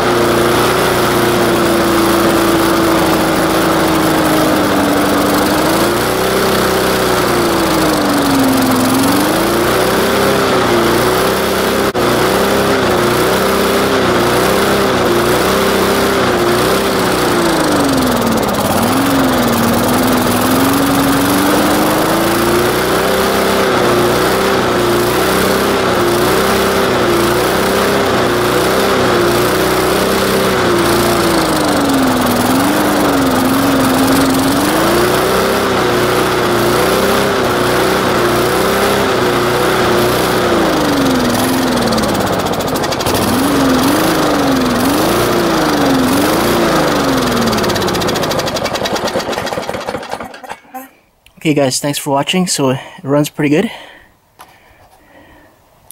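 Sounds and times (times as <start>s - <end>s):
lawn mower engine running: 0.0s - 50.9s.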